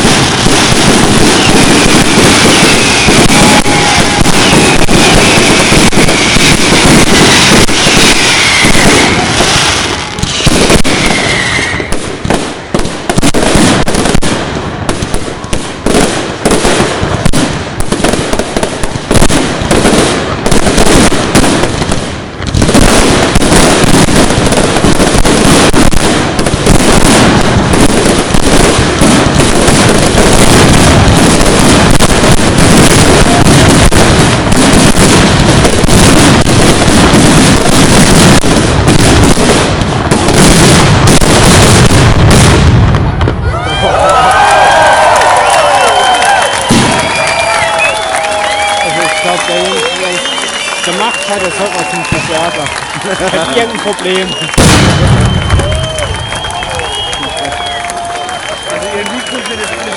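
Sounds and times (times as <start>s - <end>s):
fireworks whistles: 0.0s - 43.9s, 44.5s - 59.9s
fireworks bangs and crackling: 0.0s - 59.9s.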